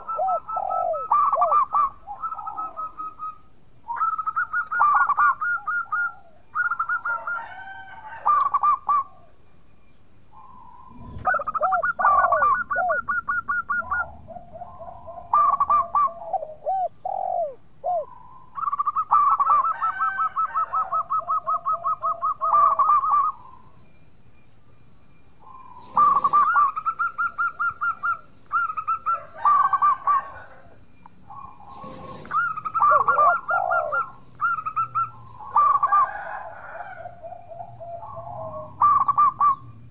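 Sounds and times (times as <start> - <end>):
dove cooing: 0.0 - 9.4, 10.4 - 23.7, 25.4 - 39.8.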